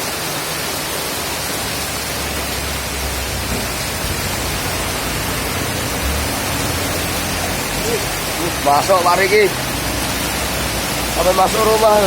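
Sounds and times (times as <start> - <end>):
heavy rain hiss: 0.0 - 12.0.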